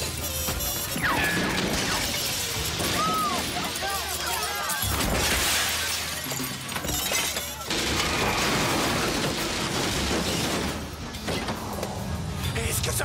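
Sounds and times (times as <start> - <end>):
glass breaking: 0.0 - 11.5
chairs and people falling: 0.2 - 11.9
car smashing into scaffolding poles: 0.9 - 11.6.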